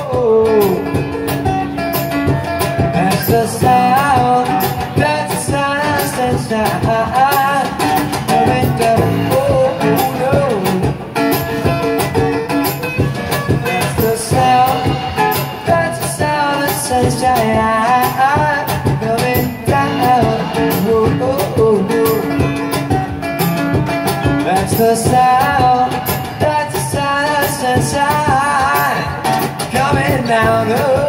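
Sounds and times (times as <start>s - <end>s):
person singing: 0.0s - 1.2s, 2.9s - 11.2s, 13.4s - 22.8s, 24.4s - 31.0s
acoustic guitar: 0.0s - 31.0s
drum kit playing a steady beat: 0.0s - 31.0s.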